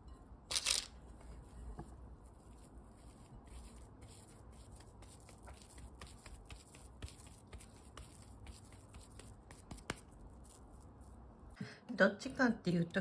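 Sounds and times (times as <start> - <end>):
hands rolling dough: 0.6 - 11.4.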